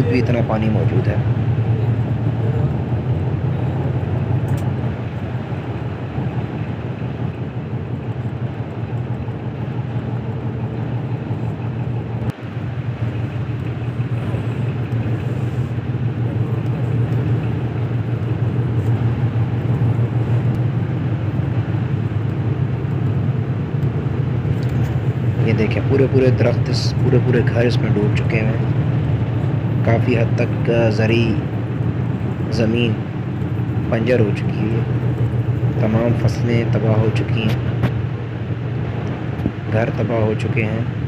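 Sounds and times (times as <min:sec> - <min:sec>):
bus engine and road noise: 0:00.0 - 0:41.0.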